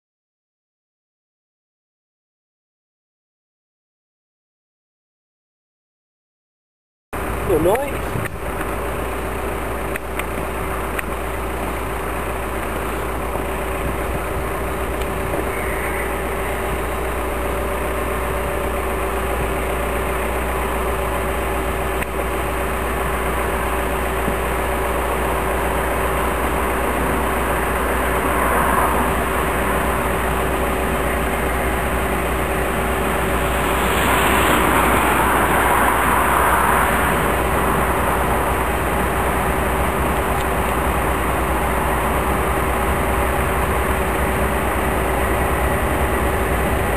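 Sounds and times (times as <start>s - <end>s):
diesel locomotive engines droning: 7.2s - 46.9s.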